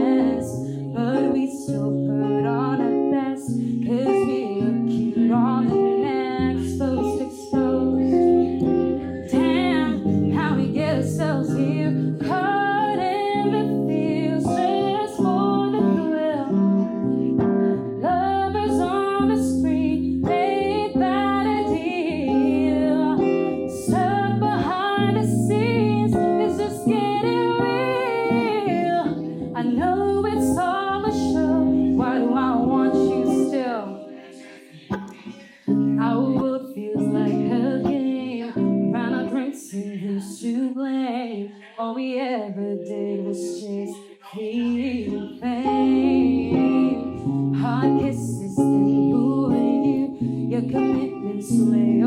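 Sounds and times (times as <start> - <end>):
guitar accompaniment: 0.0 - 52.0
woman singing: 0.0 - 52.0.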